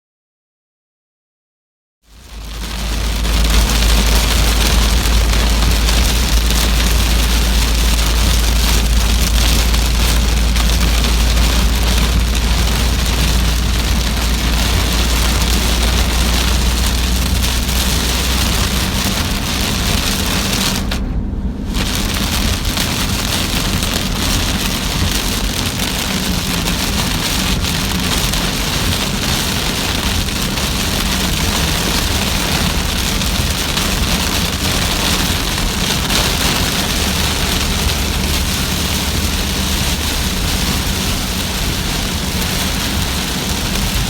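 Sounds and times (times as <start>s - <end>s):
deep low rumble: 2.1s - 44.0s
heavy rain falling: 2.1s - 44.0s.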